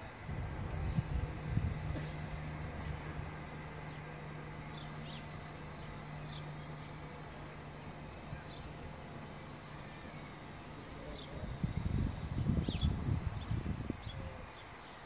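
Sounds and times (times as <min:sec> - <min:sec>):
train humming: 0:00.0 - 0:15.0
small birds chirping: 0:00.6 - 0:15.0.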